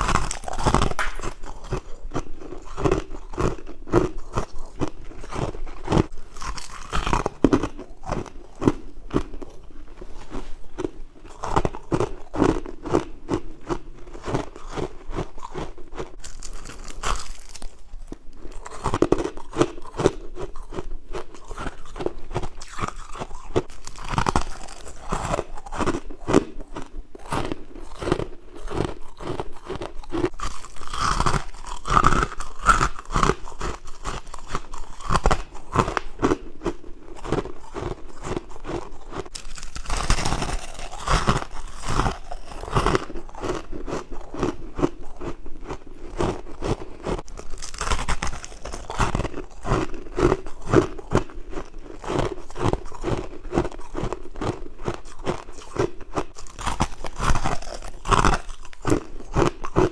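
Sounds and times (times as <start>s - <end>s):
person chewing crunchy frost: 0.0s - 59.9s.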